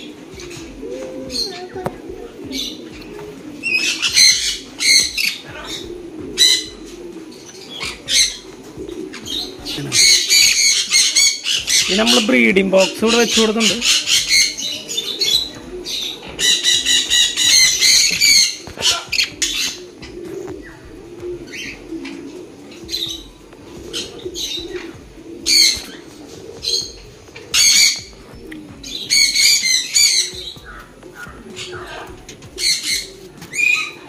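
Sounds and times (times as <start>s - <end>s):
birds squawking: 0.0s - 34.0s
low cooing: 0.0s - 34.0s.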